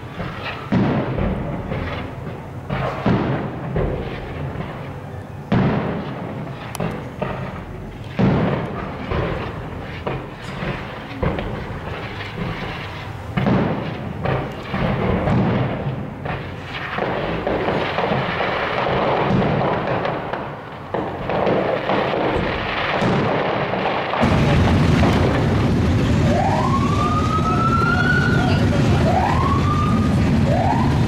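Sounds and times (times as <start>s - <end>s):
fireworks bangs and crackling: 0.0s - 31.0s
street crowd din: 0.0s - 31.0s.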